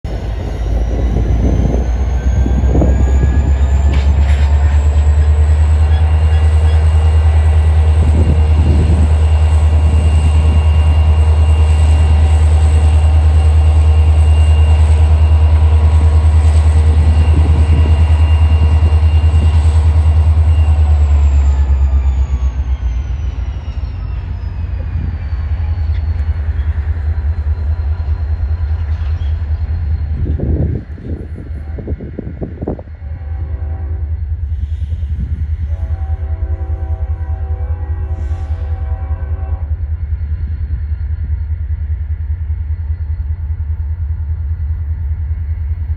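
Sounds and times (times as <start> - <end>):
diesel locomotive engine drone: 0.0 - 45.9.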